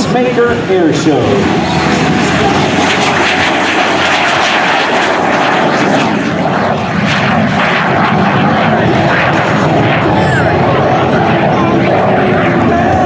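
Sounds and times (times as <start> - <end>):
jet engine running: 0.0 - 13.0.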